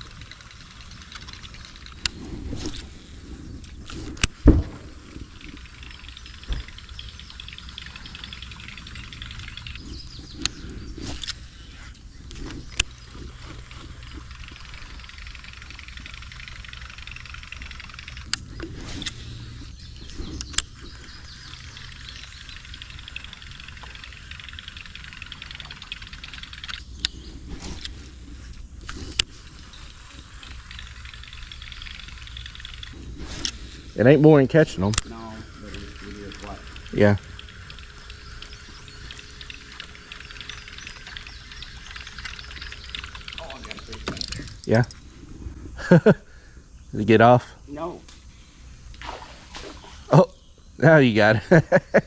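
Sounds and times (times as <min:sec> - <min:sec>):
sharp clicks: 0:00.0 - 0:45.1
fishing reel whirring: 0:00.0 - 0:46.9
high buzzing hiss: 0:00.0 - 0:52.0.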